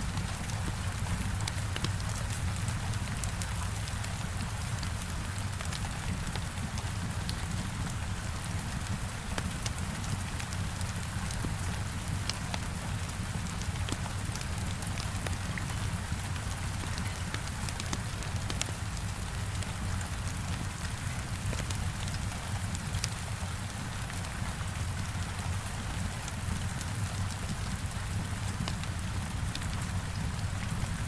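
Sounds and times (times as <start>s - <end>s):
heavy rain on a window: 0.0s - 31.0s.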